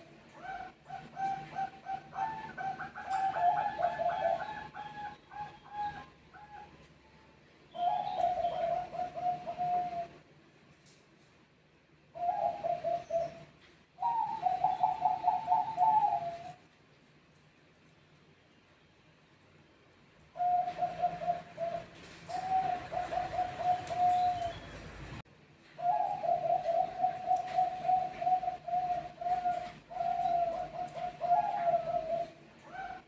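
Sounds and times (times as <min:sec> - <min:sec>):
doves cooing: 0:00.0 - 0:10.2, 0:12.1 - 0:16.6, 0:20.3 - 0:33.0.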